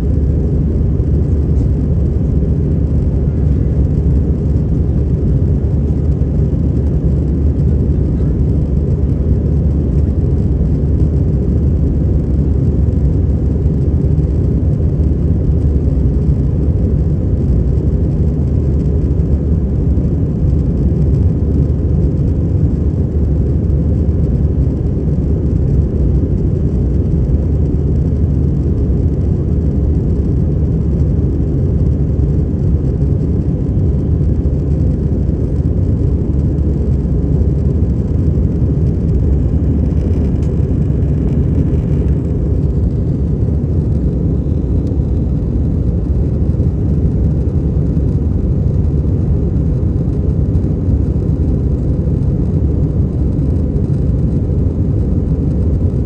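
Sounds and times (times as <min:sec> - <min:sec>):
air-conditioning noise: 0:00.0 - 0:56.0
airliner cabin engine rumble: 0:00.0 - 0:56.0.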